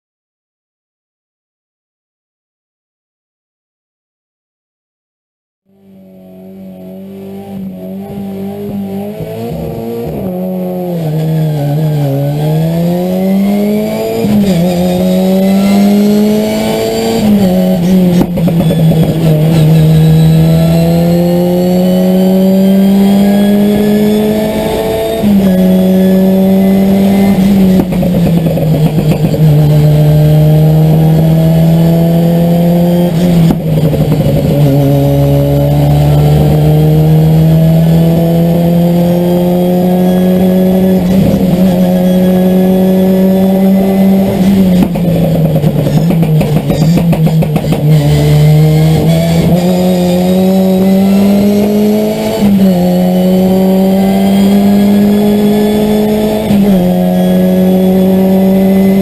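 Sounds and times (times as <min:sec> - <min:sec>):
rally car engine at full throttle: 0:05.7 - 0:59.0.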